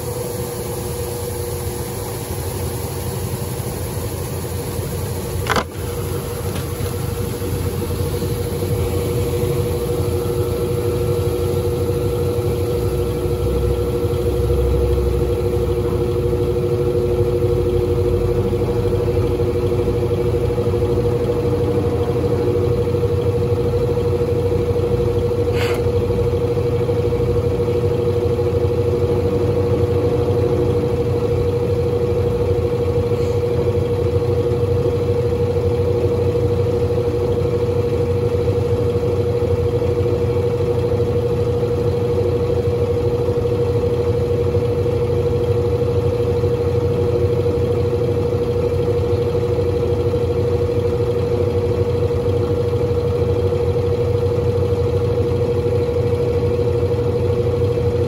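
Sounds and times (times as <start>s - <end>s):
washing machine motor hum: 0.0s - 58.0s.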